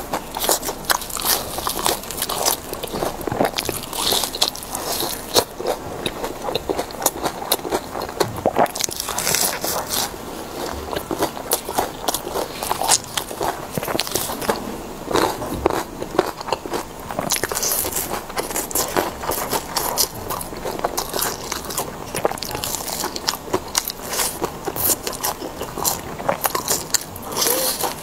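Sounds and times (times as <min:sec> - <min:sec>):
crunching of fried food: 0:00.0 - 0:28.0.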